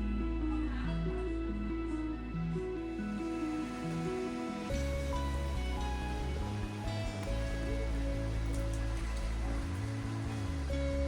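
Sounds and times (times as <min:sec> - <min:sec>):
gentle instrumental music: 0:00.0 - 0:11.0.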